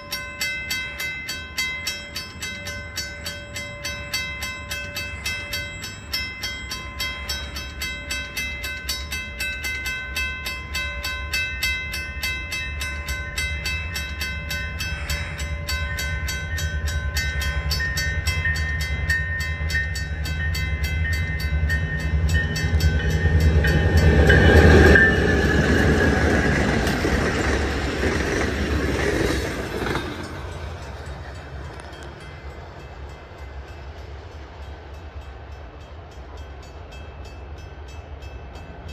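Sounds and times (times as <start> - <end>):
freight train rumble: 0.0 - 38.9
level-crossing warning bell: 0.0 - 38.9.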